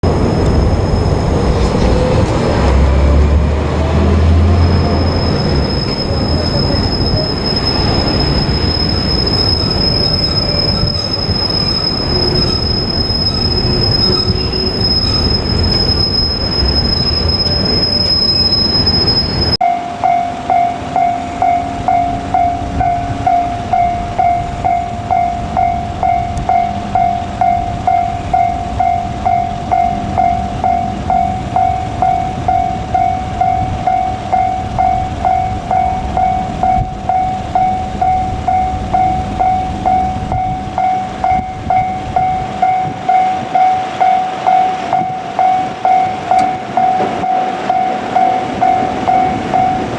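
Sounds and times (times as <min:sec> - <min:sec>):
locomotive high whine: 0:00.0 - 0:49.9
train wheels on rails: 0:00.0 - 0:49.9
level-crossing alarm ringing: 0:04.6 - 0:49.9.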